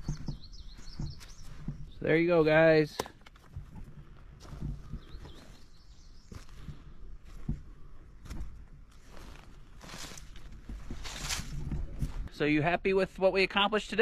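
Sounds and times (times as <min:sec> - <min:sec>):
footsteps on grass and dirt: 0:00.0 - 0:12.4.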